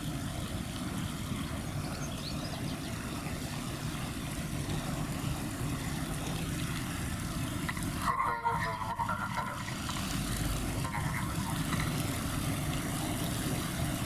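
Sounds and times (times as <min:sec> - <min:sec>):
ship diesel engines rumbling: 0:00.0 - 0:14.0.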